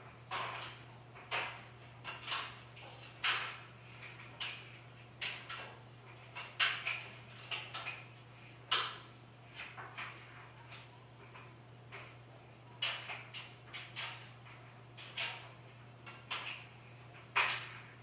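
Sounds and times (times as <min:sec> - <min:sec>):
cat licking and splashing water: 0:00.2 - 0:18.0.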